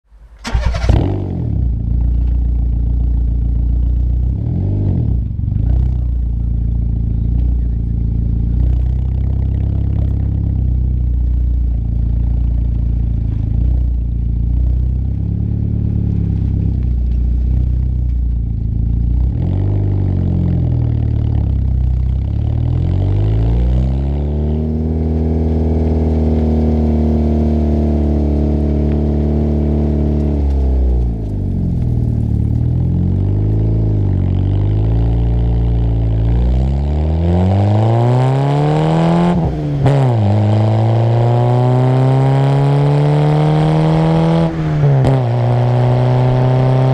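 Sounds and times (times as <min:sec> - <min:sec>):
car exhaust revving: 0:00.2 - 0:46.9.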